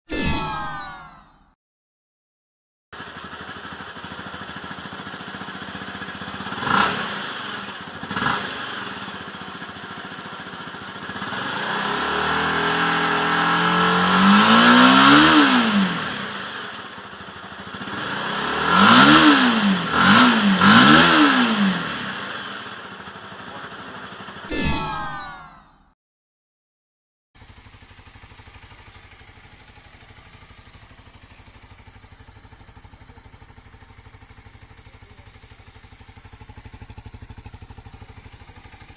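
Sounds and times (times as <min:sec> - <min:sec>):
motorcycle engine idling and revving: 0:02.9 - 0:24.5, 0:27.4 - 0:38.9.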